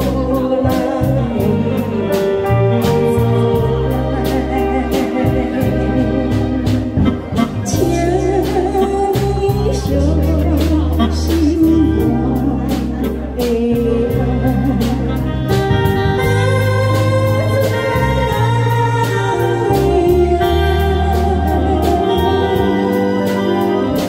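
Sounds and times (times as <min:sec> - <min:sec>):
live rock band playing: 0:00.0 - 0:24.0
woman singing: 0:00.0 - 0:24.0.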